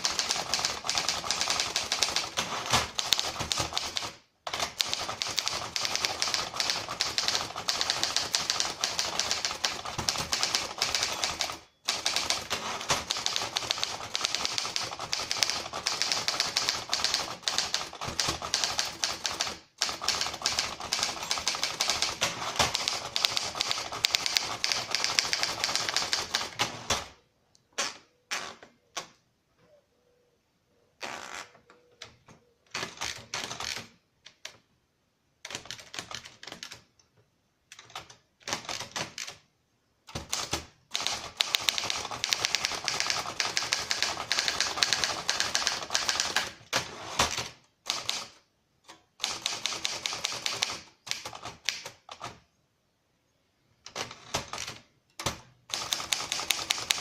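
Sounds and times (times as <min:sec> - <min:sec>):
typewriter keys clacking: 0:00.0 - 0:27.1, 0:32.0 - 0:34.6, 0:35.4 - 0:37.0, 0:37.8 - 0:39.4, 0:40.1 - 0:52.4, 0:53.9 - 0:57.0.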